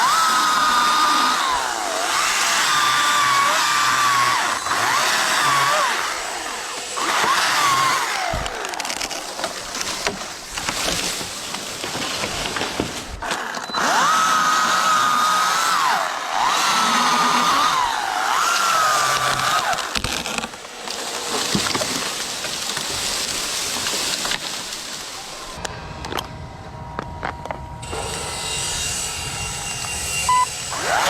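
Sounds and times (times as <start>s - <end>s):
chainsaw cutting wood: 0.0s - 25.0s, 27.8s - 31.0s.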